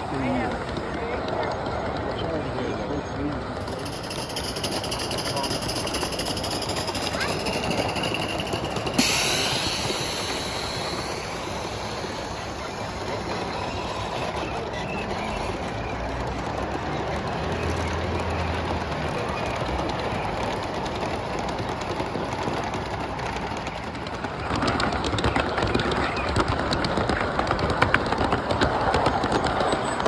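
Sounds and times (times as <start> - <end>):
model train cars rolling on track: 0.0 - 30.0
rapid wheel clicks: 0.0 - 30.0.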